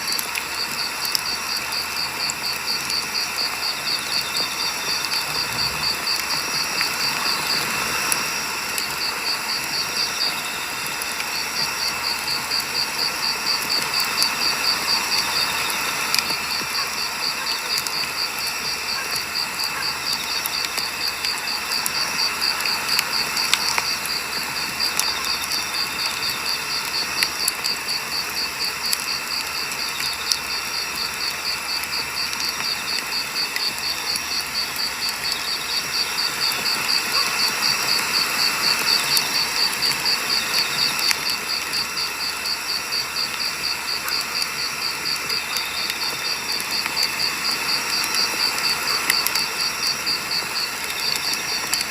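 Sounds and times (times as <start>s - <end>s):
campfire crackling and popping: 0.0s - 51.9s
insect trilling: 0.0s - 51.9s.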